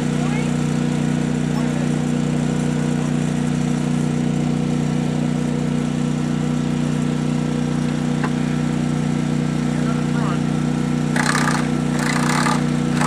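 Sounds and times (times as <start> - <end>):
generator and compressor engine hum: 0.0 - 13.0.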